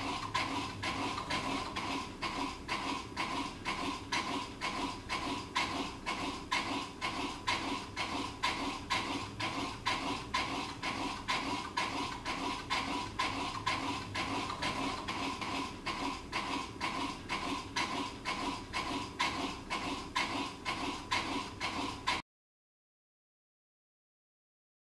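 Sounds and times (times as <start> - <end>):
ceiling fan clacking and humming: 0.0 - 22.2.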